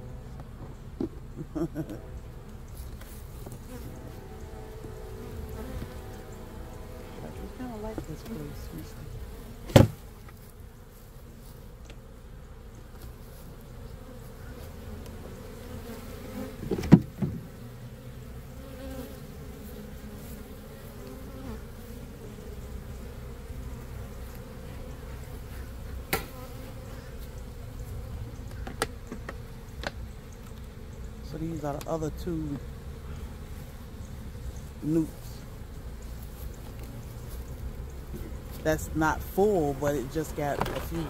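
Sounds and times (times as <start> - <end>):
honey bees buzzing: 0.0 - 41.0.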